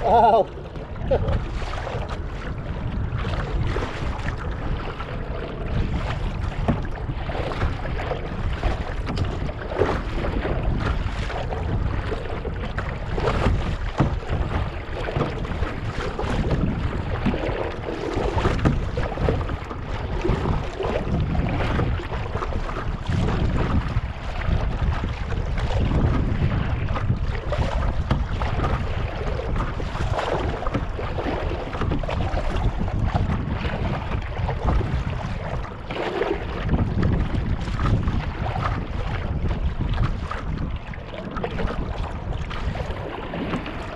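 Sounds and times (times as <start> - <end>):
small waves lapping against kayak: 0.0 - 43.9
wind buffeting microphone: 0.0 - 43.9.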